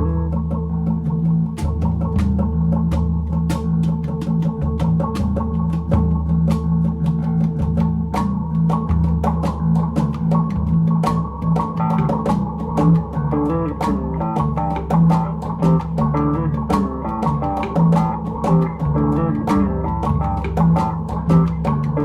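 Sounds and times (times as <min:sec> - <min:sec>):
bass: 0:00.0 - 0:22.0
plucked guitar: 0:00.0 - 0:22.0.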